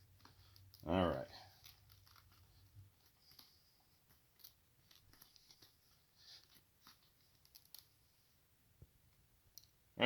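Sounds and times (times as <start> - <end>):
plastic helmet rustling: 0.0 - 9.2.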